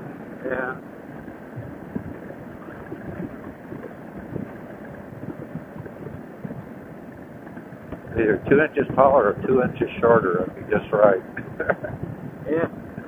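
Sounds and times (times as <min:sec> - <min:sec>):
wind buffeting on motorcycle: 0:00.0 - 0:13.0.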